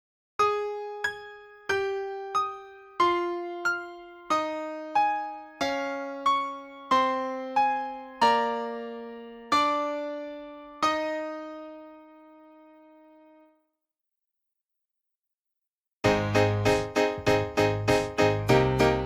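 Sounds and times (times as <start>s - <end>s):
slow piano-toned keyboard notes: 0.4s - 13.5s, 16.0s - 19.0s.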